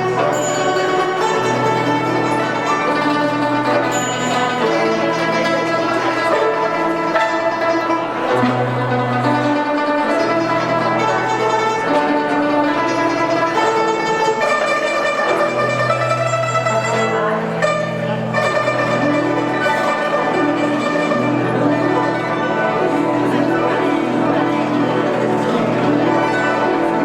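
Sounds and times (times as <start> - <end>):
plucked strings: 0.0 - 27.0.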